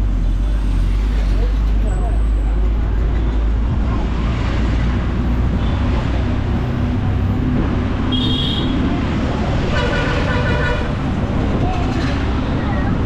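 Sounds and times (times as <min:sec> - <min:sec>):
bus engine rumble: 0:00.0 - 0:13.0
road and wind noise: 0:00.0 - 0:13.0.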